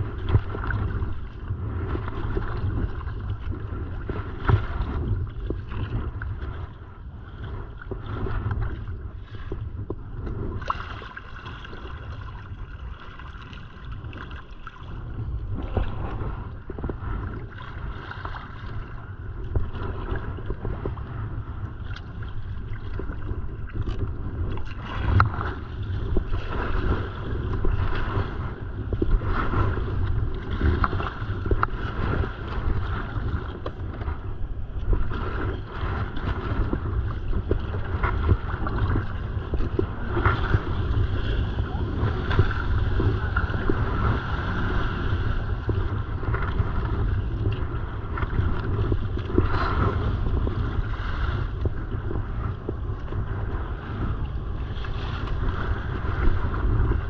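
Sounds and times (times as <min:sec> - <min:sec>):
paddle blades splashing: 0:00.0 - 0:57.0
water sloshing against hull: 0:00.0 - 0:57.0
wind rumble on microphone: 0:00.0 - 0:57.0.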